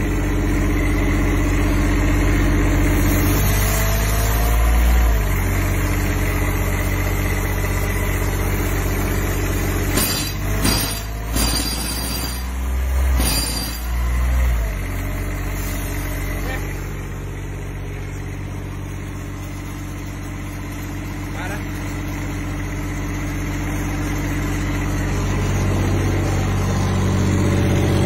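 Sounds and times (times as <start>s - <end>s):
air compressor diesel engine running: 0.0s - 28.0s.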